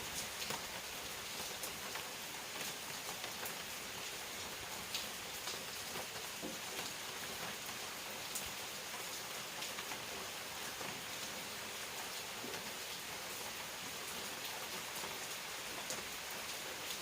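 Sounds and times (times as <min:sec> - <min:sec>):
raindrops ticking on a surface: 0:00.0 - 0:17.0.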